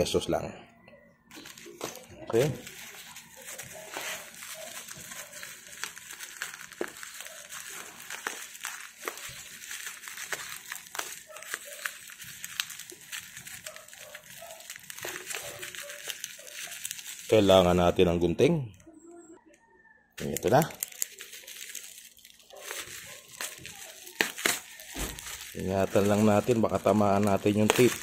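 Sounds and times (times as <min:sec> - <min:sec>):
plastic wrap crinkling: 0:01.3 - 0:18.2, 0:20.2 - 0:28.0.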